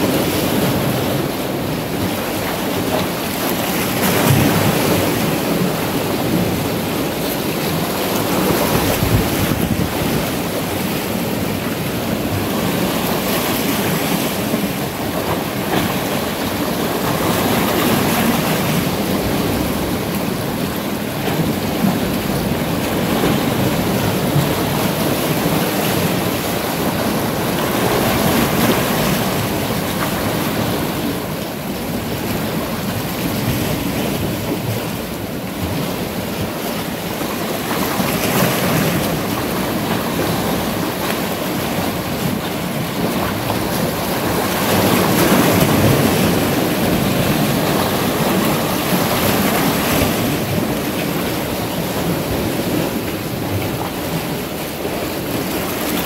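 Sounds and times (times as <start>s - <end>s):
surf breaking on rocks: 0.0s - 56.0s.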